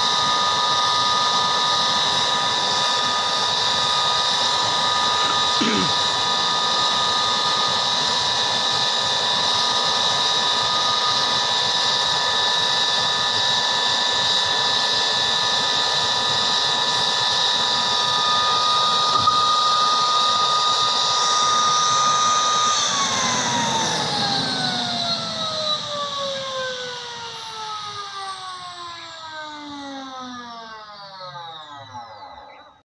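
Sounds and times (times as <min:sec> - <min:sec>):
helicopter turbine whine: 0:00.0 - 0:32.8.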